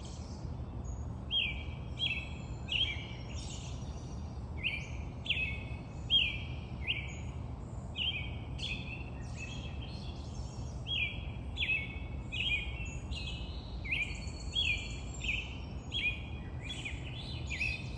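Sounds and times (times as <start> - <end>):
birds chirping: 0.0 - 17.9.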